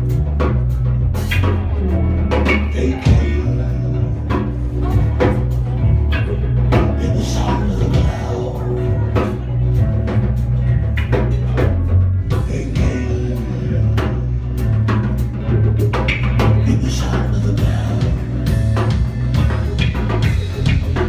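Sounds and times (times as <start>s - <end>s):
bass line: 0.0s - 21.0s
drum kit beat: 0.0s - 21.0s
electric guitar: 0.0s - 21.0s.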